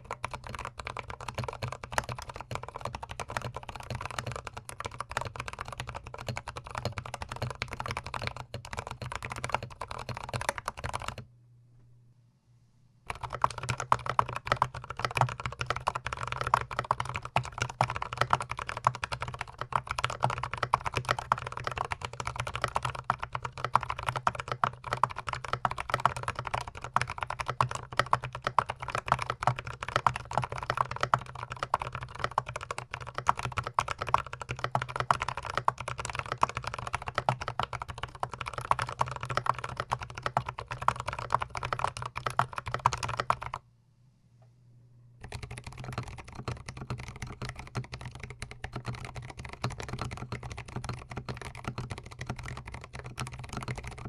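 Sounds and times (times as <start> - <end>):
mechanical keyboard typing: 0.0 - 11.2, 13.1 - 43.6, 45.2 - 54.0.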